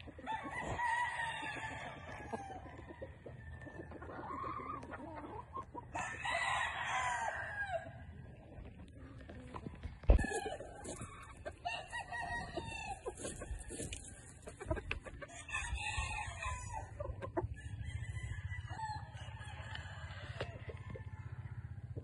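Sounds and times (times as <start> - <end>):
roosters crowing and clucking: 0.0 - 22.0.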